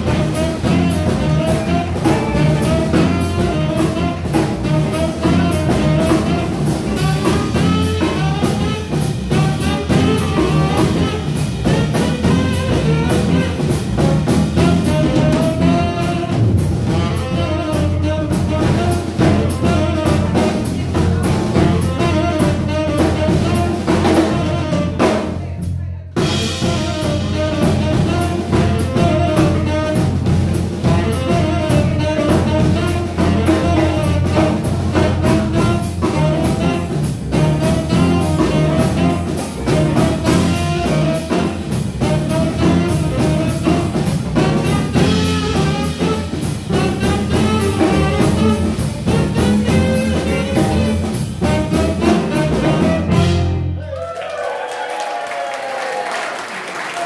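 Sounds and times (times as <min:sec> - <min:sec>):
saxophone: 0:00.0 - 0:53.9
bass guitar: 0:00.0 - 0:54.0
drum kit: 0:00.0 - 0:54.1.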